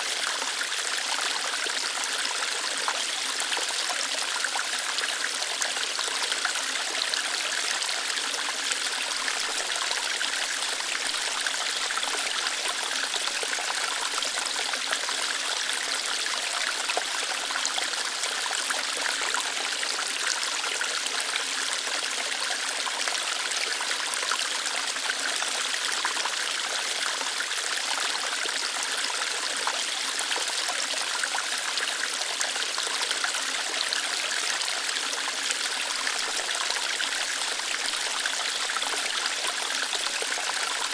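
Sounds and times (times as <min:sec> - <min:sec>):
water trickling over rocks: 0:00.1 - 0:40.9.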